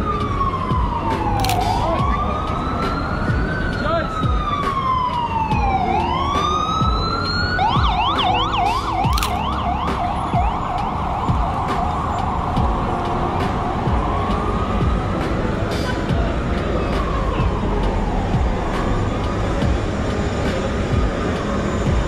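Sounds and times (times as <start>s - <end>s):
emergency vehicle siren: 0.0s - 22.0s
traffic noise: 0.0s - 22.0s.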